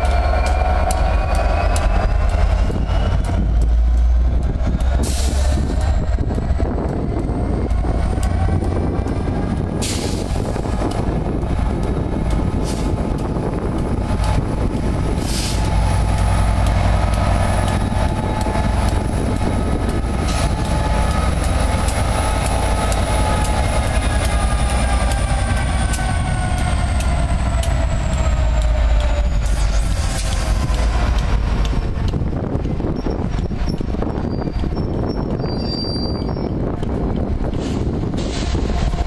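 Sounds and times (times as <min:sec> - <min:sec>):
diesel locomotive rumbling past: 0:00.0 - 0:39.0
wheels clicking on track: 0:00.0 - 0:39.0.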